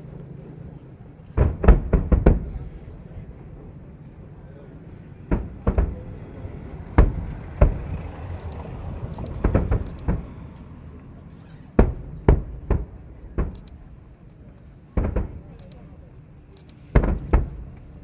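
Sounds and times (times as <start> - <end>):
firework shells bursting: 1.2 - 18.0.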